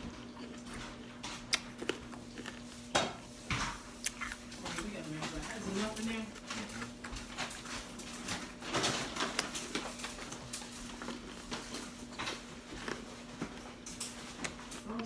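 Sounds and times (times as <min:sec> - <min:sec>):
candy apple crunching: 0:00.0 - 0:15.0.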